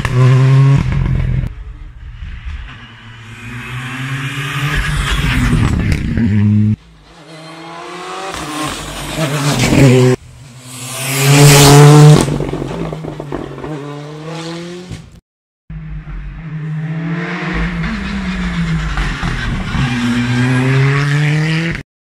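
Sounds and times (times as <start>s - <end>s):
rally car engine at full throttle: 0.0s - 21.8s.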